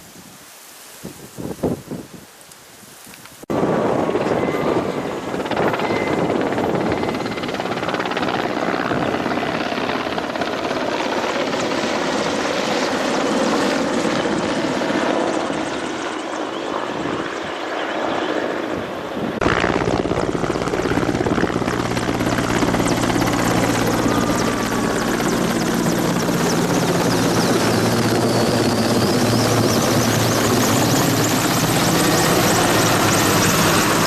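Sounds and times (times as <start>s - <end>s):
helicopter flying close by: 3.5s - 34.0s.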